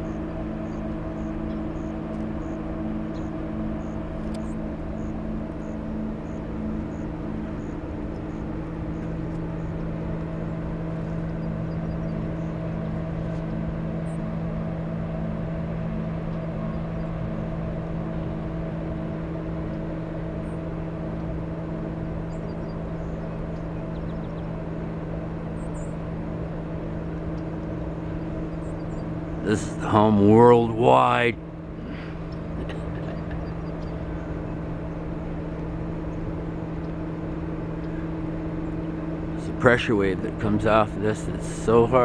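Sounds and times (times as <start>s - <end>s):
constant rushing noise: 0.0s - 42.0s
low industrial hum: 0.0s - 42.0s
throbbing hum tone: 0.0s - 42.0s.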